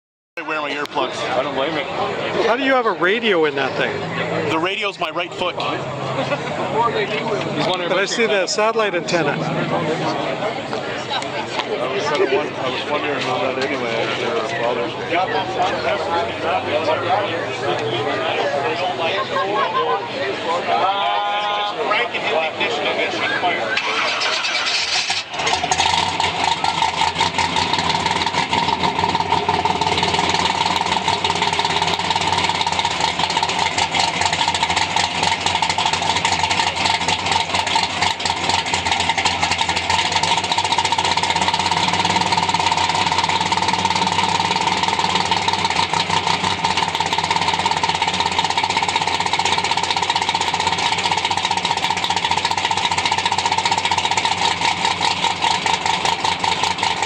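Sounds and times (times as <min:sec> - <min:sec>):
drag car engine idling loudly: 0:00.4 - 0:57.0.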